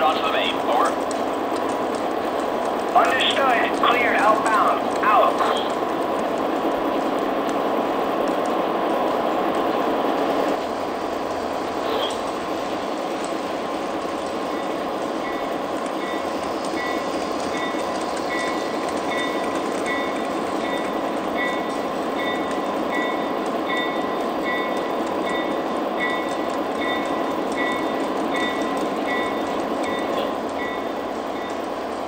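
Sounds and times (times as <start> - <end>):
model train whirring on rails: 0.0 - 32.0.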